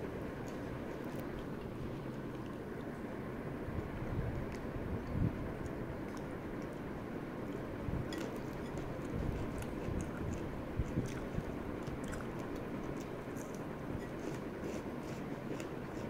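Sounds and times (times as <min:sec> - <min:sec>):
chewing crisp beans: 0:00.0 - 0:03.1, 0:04.3 - 0:16.0
steady low background noise: 0:00.0 - 0:16.0.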